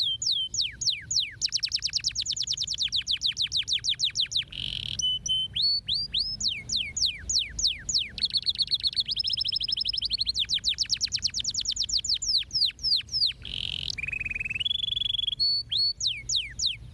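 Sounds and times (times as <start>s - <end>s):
canary singing: 0.0s - 16.9s.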